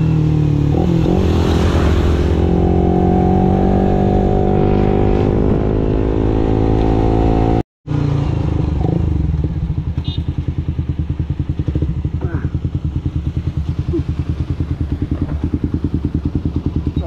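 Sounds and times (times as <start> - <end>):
motorcycle exhaust cruising: 0.0 - 17.0.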